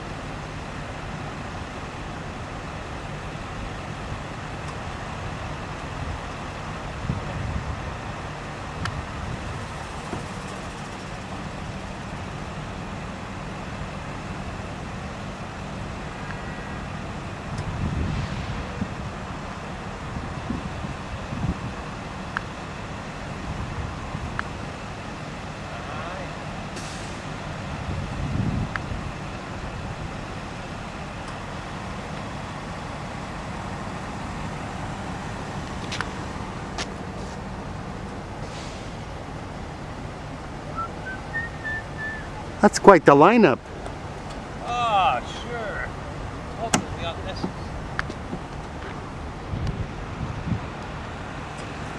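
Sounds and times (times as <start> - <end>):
vehicle engines idling: 0.0 - 51.9.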